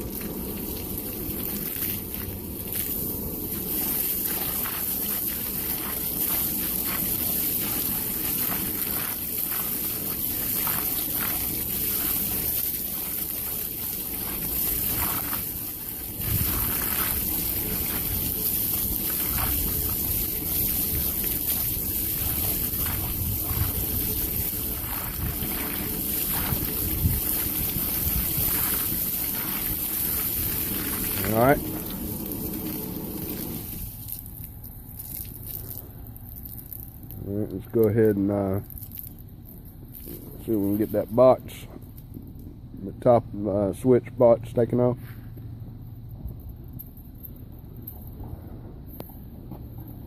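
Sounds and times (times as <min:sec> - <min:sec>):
hose water spraying and splashing: 0:00.0 - 0:42.1.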